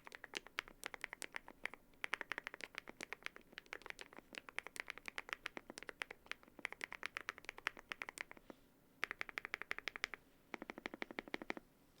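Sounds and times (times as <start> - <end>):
mechanical keyboard typing: 0.0 - 8.4, 9.0 - 11.6.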